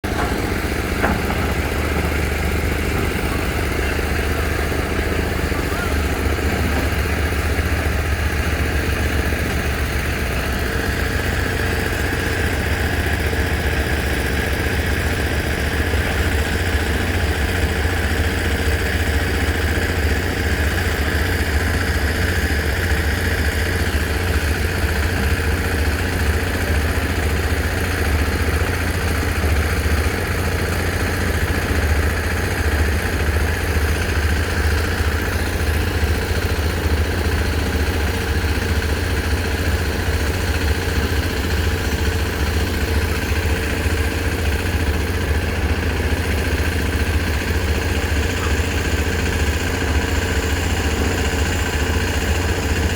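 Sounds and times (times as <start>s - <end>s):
heavy machine engine rumble: 0.0s - 52.9s.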